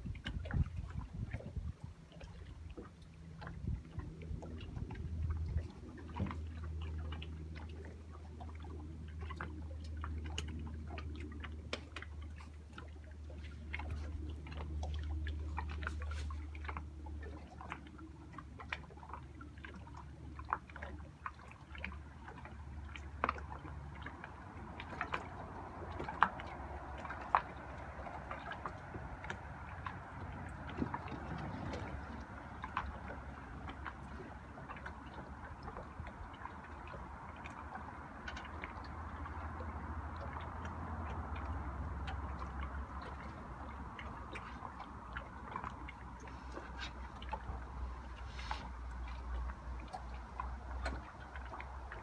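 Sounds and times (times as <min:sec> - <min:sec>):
waves lapping against wooden pier: 0:00.0 - 0:52.0.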